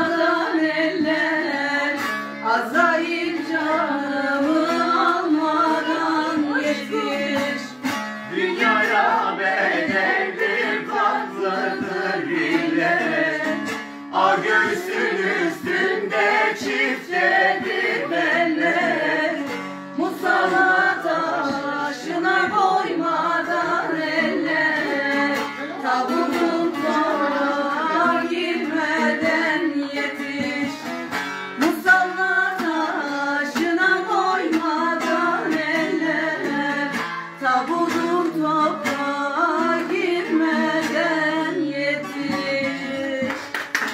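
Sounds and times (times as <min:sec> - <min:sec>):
person singing: 0:00.0 - 0:30.9, 0:31.6 - 0:43.5
plucked lute: 0:00.0 - 0:43.9.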